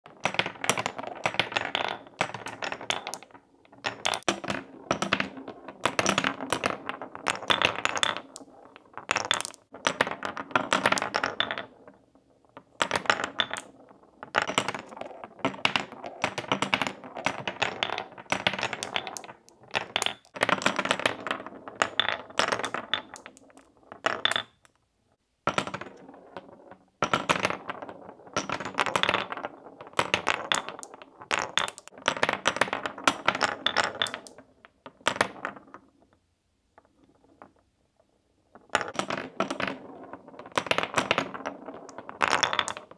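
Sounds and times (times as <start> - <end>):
marbles rolling through wooden blocks: 0.1 - 24.8, 25.5 - 36.1, 36.8 - 42.9.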